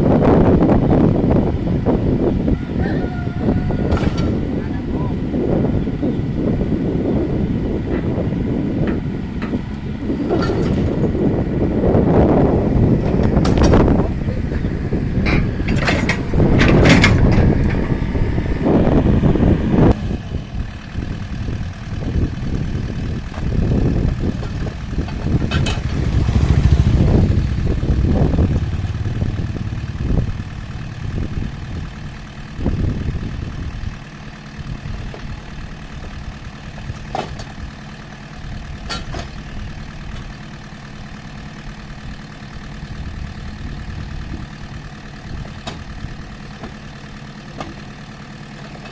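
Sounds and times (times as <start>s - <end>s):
excavator diesel engine: 0.0s - 48.9s.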